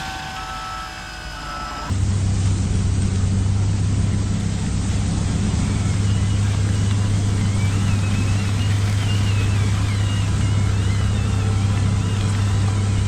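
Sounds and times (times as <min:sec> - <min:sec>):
electric motors humming: 0:00.0 - 0:13.0
gear whine: 0:00.0 - 0:13.0.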